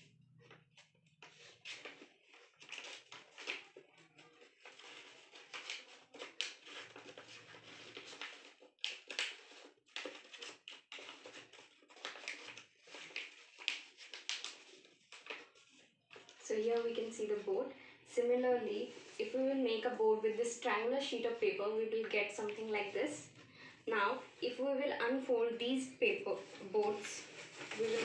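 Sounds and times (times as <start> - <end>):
paper rustling and crinkling: 0.4 - 17.5, 18.3 - 23.5, 25.8 - 28.0.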